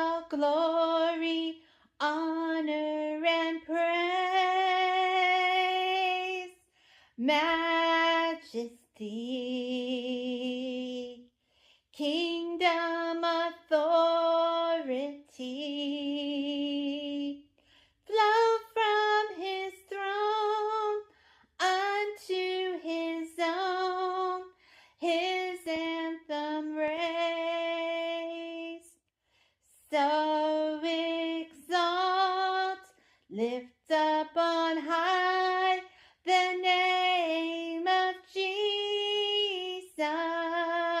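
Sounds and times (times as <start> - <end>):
woman singing a hymn: 0.0 - 6.6, 7.2 - 11.2, 12.0 - 17.4, 18.1 - 28.9, 29.8 - 41.0.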